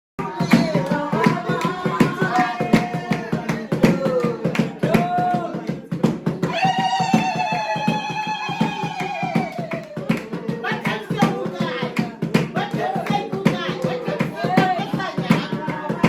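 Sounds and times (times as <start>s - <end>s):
music with singing voice: 0.2s - 16.0s.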